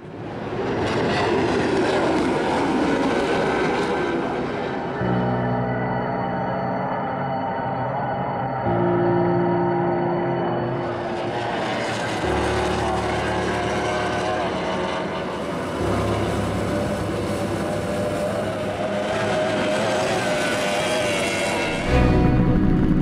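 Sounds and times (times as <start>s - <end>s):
powerboat engines droning: 4.0s - 22.7s.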